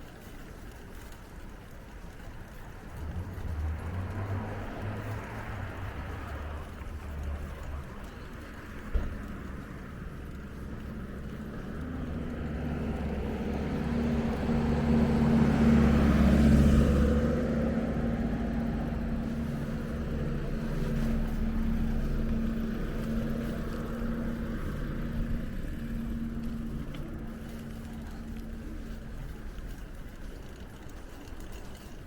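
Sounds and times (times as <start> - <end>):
steady low engine hum: 2.5 - 32.0
vehicle passing by: 2.5 - 32.0.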